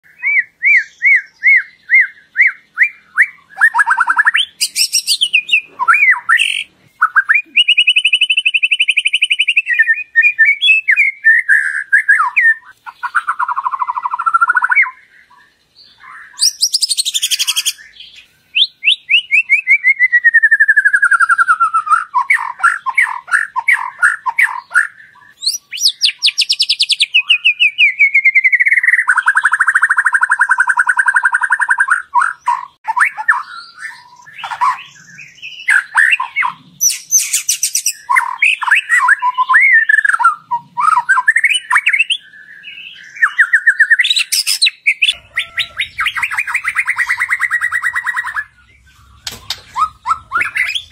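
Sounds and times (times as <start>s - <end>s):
bird singing trills and whistles: 0.0s - 50.9s.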